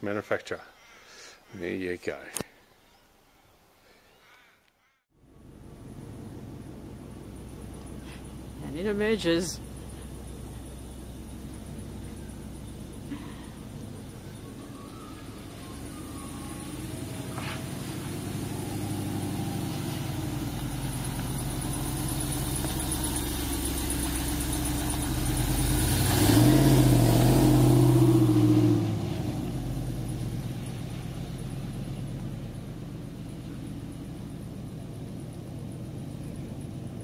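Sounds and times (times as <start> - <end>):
truck engine accelerating past: 5.2 - 37.0.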